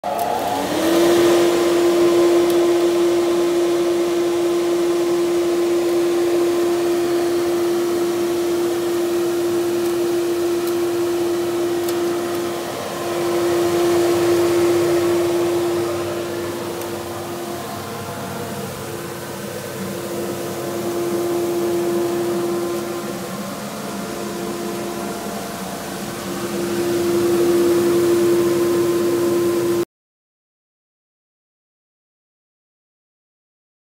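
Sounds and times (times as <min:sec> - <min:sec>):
dust collector motor whining: 0:00.0 - 0:29.8.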